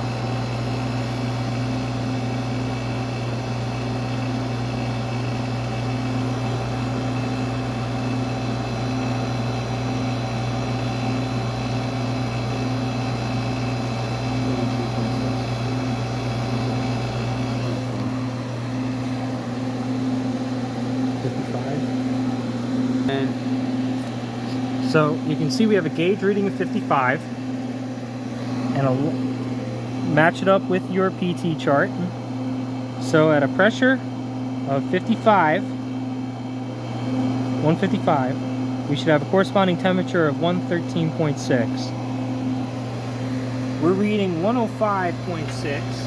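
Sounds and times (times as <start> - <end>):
air conditioner humming: 0.0 - 46.0.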